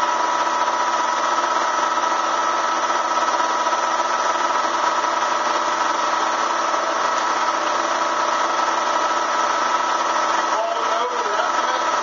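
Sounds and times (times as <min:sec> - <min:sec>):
vacuum motor whining: 0:00.0 - 0:12.0.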